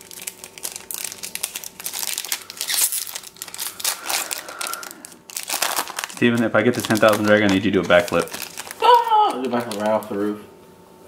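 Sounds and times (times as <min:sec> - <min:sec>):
foil wrapper crinkling: 0:00.0 - 0:10.4.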